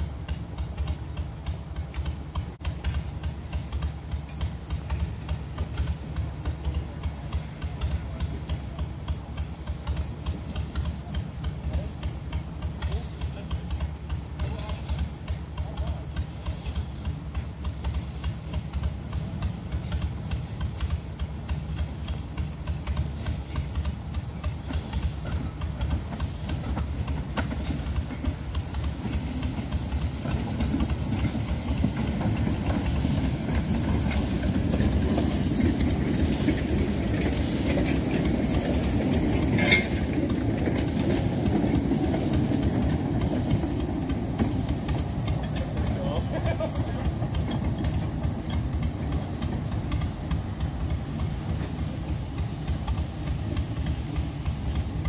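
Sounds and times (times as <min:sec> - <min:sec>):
steam hissing: 0:00.0 - 0:55.0
steam locomotive chuffing: 0:00.0 - 0:55.0
wheels clattering over track: 0:00.0 - 0:55.0.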